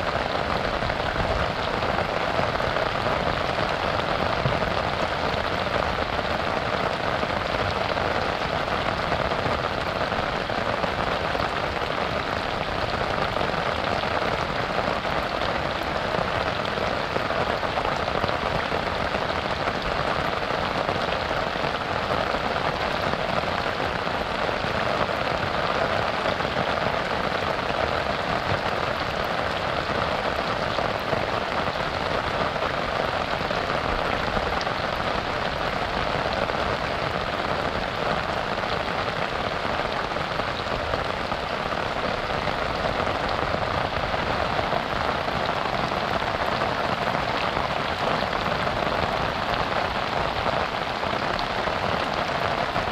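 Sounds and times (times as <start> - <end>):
rain falling on a river: 0.0 - 52.9.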